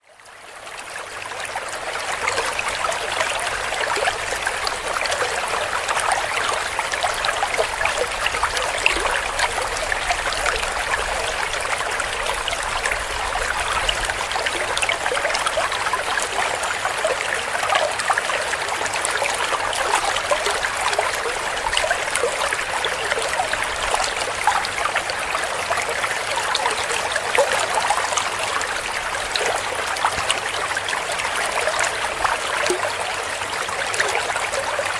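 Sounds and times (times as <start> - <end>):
stream flowing and gurgling: 0.0 - 34.9.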